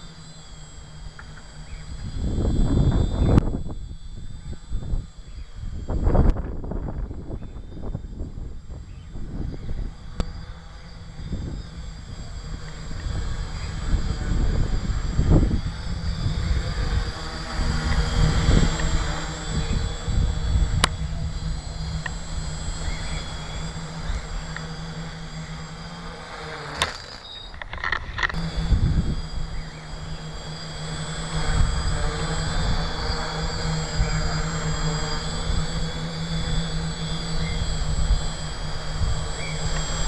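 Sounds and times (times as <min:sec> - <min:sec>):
wind buffeting microphone: 0:00.0 - 0:25.8, 0:27.7 - 0:40.0
drone propellers buzzing: 0:00.0 - 0:40.0
high motor whine: 0:00.0 - 0:40.0.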